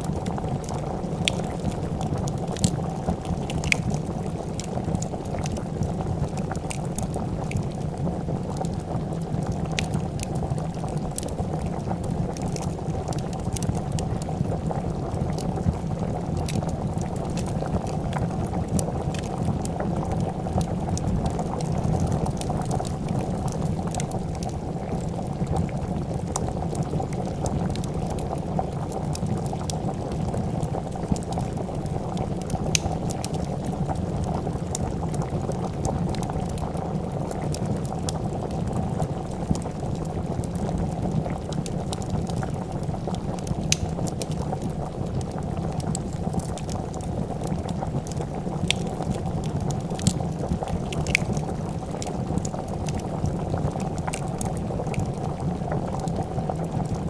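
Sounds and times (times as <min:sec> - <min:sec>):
soup bubbling in a pot: 0:00.0 - 0:57.0
wood fire crackling: 0:00.0 - 0:57.0.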